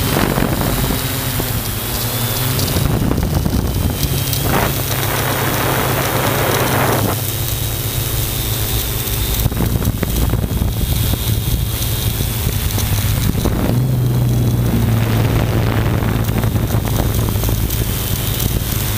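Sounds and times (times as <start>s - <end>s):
aircraft propellers humming: 0.0s - 18.9s
wind rushing over microphone: 0.0s - 18.9s.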